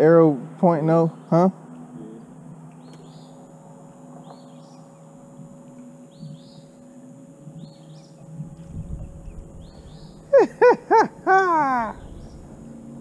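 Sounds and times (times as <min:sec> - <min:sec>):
faint low hum: 0:00.0 - 0:13.0
bird calling: 0:00.9 - 0:13.0.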